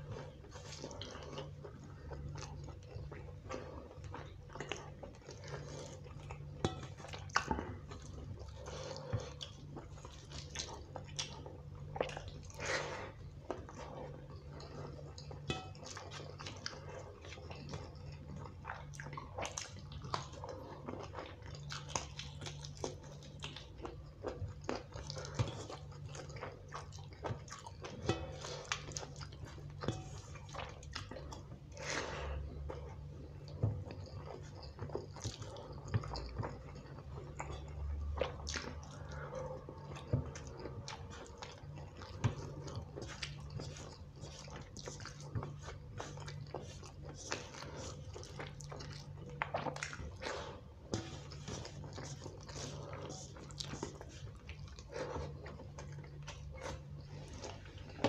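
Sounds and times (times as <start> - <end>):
chewing and mouth clicks: 0.0 - 58.0
low steady hum: 0.0 - 58.0.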